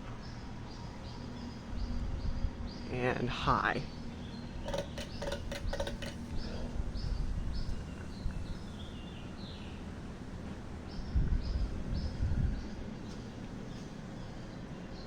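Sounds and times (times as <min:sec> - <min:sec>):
birds chirping: 0:00.0 - 0:15.0
ceiling fan humming: 0:00.0 - 0:15.0.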